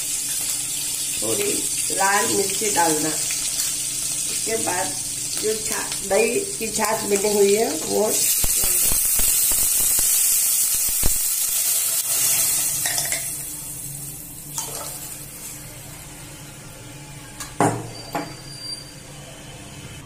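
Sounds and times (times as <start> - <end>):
hot oil sizzling in a pan: 0.0 - 17.1.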